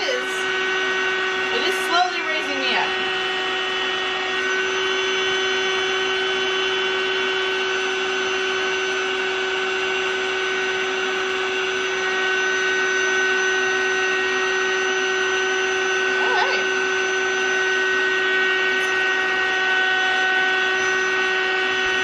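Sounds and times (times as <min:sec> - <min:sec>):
electric air pump whining: 0:00.0 - 0:22.0.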